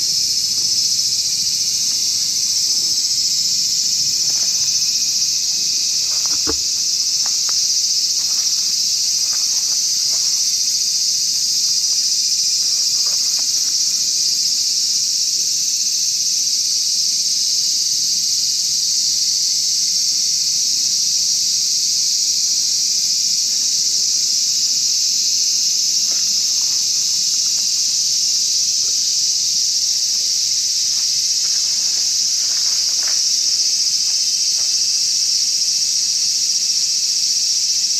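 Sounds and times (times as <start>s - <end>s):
insect chorus drone: 0.0s - 37.9s.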